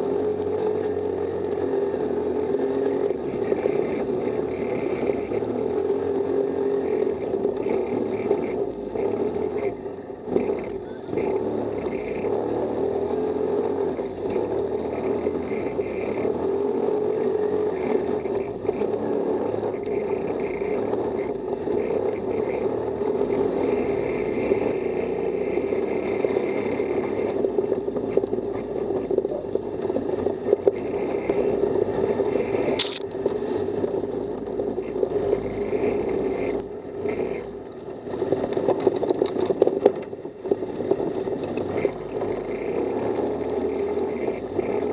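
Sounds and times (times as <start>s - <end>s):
buggy engine drone: 0.0s - 44.9s.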